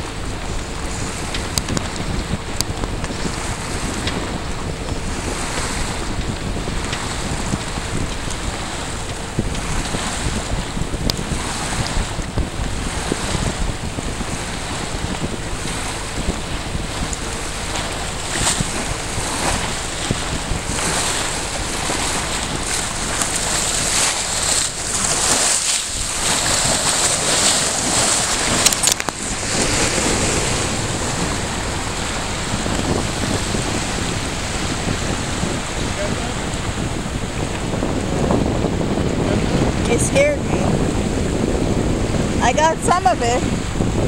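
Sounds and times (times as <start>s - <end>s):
water rushing and splashing: 0.0s - 44.0s
wind buffeting microphone: 0.0s - 44.0s.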